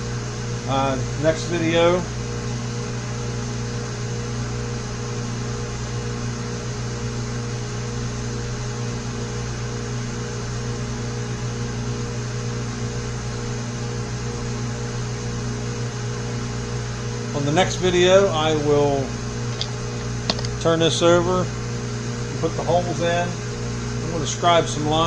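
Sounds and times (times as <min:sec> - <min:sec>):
shop machinery hum: 0:00.0 - 0:25.0.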